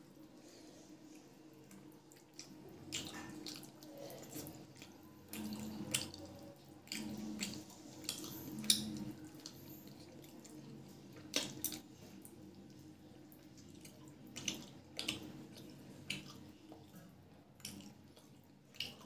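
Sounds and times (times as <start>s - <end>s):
open-mouthed chewing: 0.0s - 19.0s.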